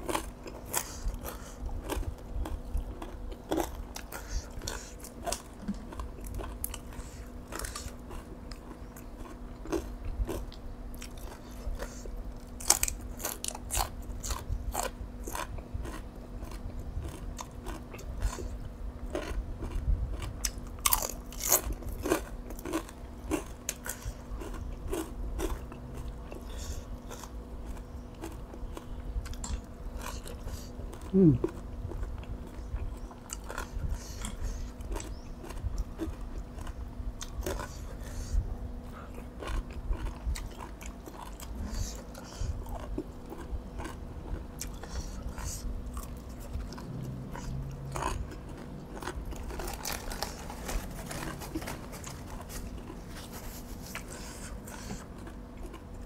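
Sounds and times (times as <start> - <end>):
faint steady hum: 0.0 - 56.0
person chewing wetly: 0.0 - 56.0.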